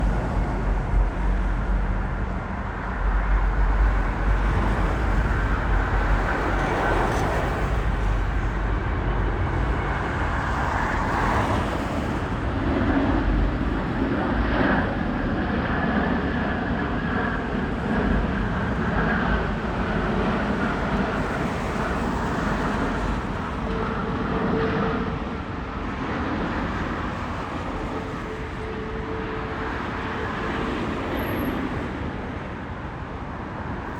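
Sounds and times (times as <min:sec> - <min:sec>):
jet airliner rumble: 0:00.0 - 0:33.9
road traffic: 0:00.0 - 0:33.9.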